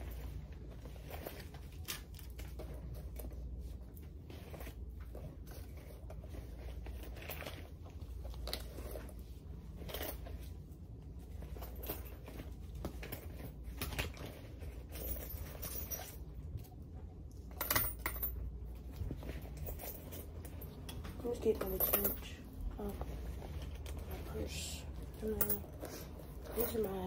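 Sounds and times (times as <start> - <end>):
clothing rustling: 0.0 - 17.7, 18.3 - 27.0
low steady hum: 0.0 - 27.0.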